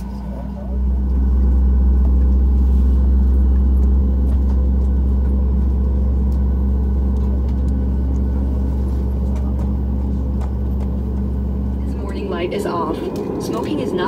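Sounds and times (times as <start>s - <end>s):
faint hum: 0.0s - 14.0s
jet engines idling: 0.0s - 14.0s.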